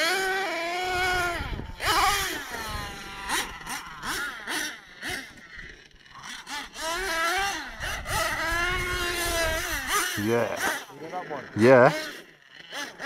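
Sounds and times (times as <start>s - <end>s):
small nitro engines revving: 0.0s - 13.0s.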